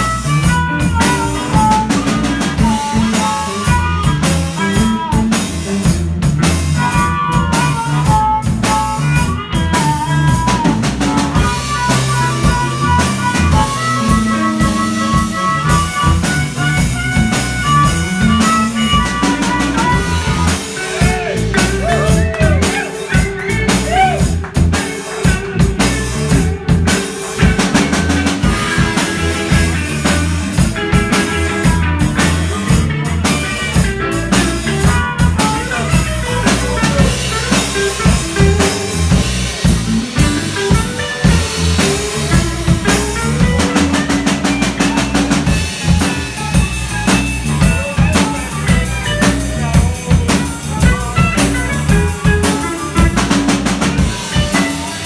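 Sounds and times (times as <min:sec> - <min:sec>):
blues band playing: 0:00.0 - 0:55.0.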